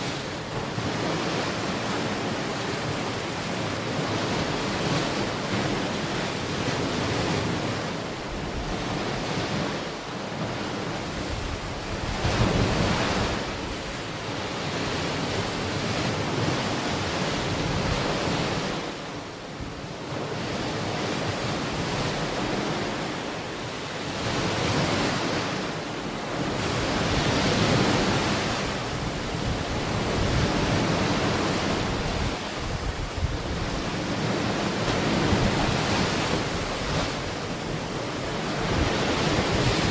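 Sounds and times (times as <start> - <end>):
ocean waves washing onto beach: 0.0 - 39.9
wind on microphone: 3.9 - 23.1, 24.2 - 39.9.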